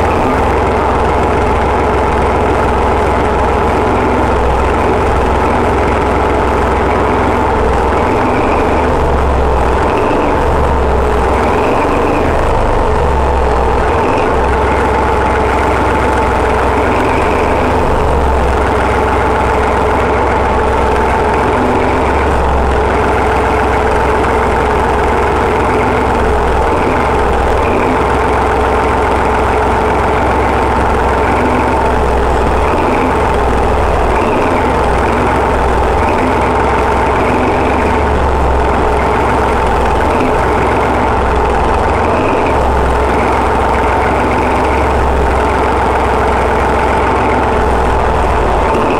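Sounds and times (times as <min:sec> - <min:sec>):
diesel locomotive engine idling: 0:00.0 - 0:48.9.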